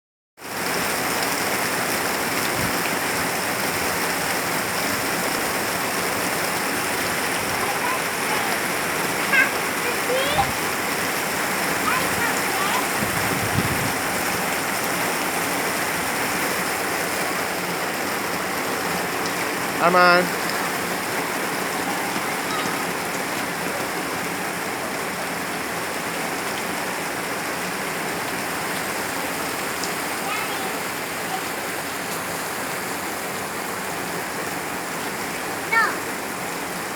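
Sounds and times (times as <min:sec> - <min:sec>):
heavy rain falling: 0:00.4 - 0:36.9.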